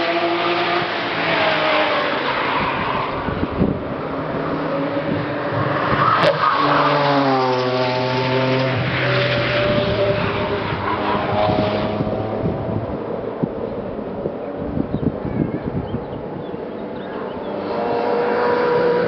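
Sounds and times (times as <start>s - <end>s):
racing car passing at speed: 0.0s - 14.2s, 16.8s - 19.0s.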